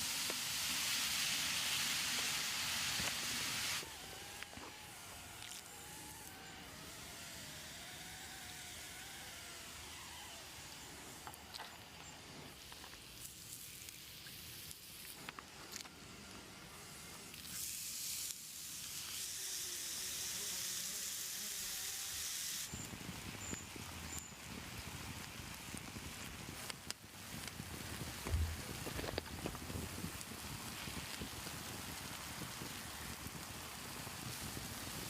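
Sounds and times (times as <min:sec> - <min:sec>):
fire crackles: 0:00.0 - 0:35.0
food sizzling over campfire: 0:00.0 - 0:35.0.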